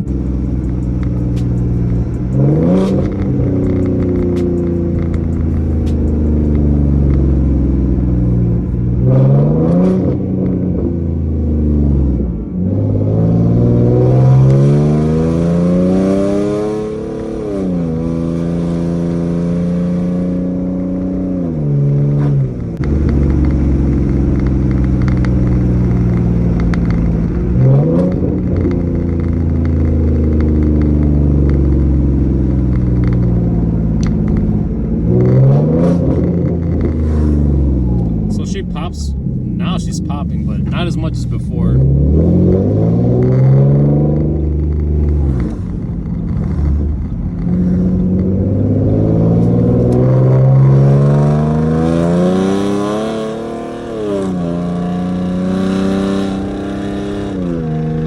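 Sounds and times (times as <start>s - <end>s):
car exhaust accelerating: 0.0s - 58.0s.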